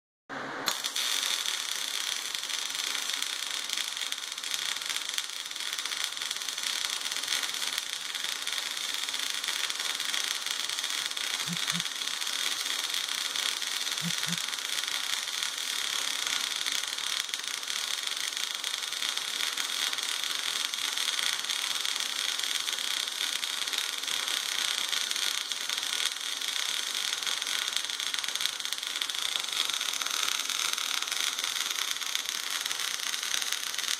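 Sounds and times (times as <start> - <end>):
welding arc hissing: 0.6 - 33.9.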